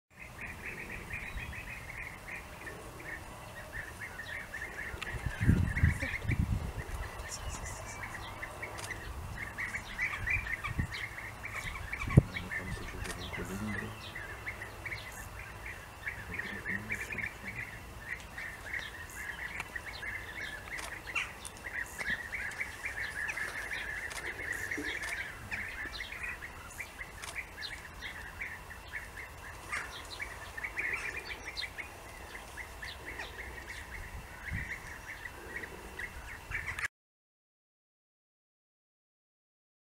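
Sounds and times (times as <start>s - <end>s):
birds chattering calls: 0.1s - 36.9s.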